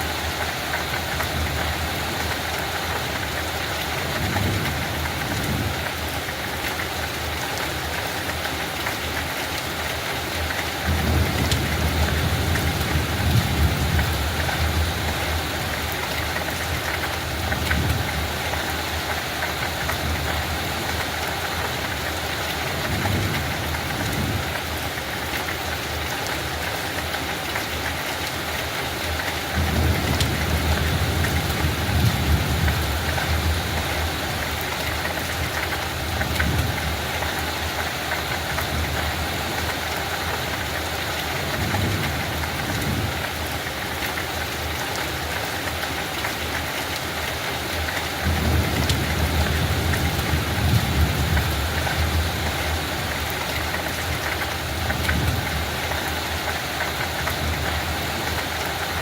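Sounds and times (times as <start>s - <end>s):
steady light rain: 0.0s - 59.0s.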